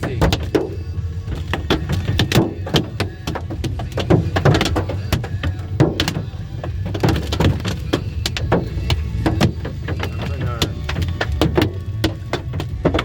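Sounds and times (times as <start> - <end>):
hail hitting car roof: 0.0 - 13.0.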